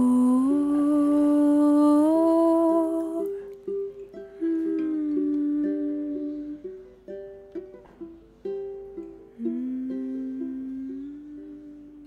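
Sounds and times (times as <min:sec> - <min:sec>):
soft plucked string music: 0:00.0 - 0:12.0.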